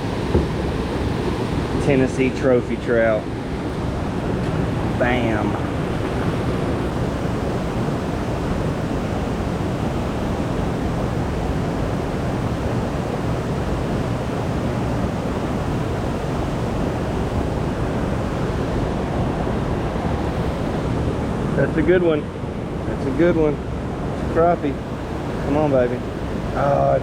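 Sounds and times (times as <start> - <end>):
water rushing: 0.0 - 27.0
wind on microphone: 0.0 - 27.0.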